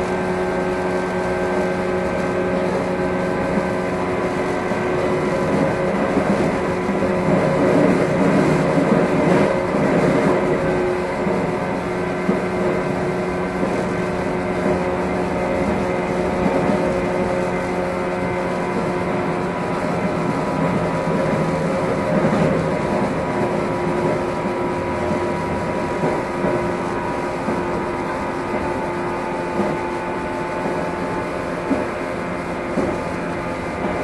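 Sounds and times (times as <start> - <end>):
train motor whine: 0.0 - 34.0
wheels rumbling on rails: 0.0 - 34.0.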